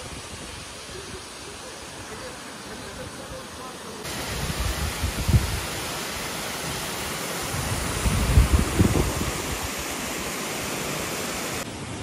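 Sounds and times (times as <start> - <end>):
water cascading over rocks: 0.0 - 12.0.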